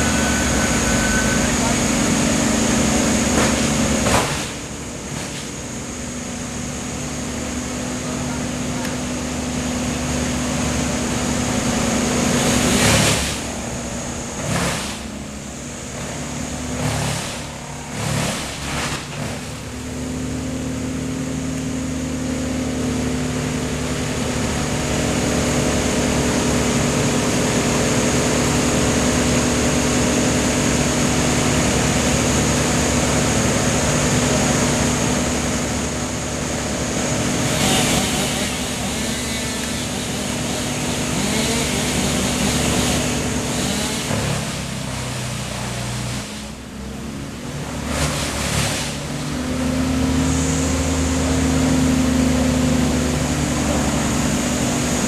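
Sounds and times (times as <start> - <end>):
branches grinding in chipper: 0.0 - 8.1, 8.7 - 20.3, 24.4 - 52.0
wood chipper engine running: 0.0 - 55.0.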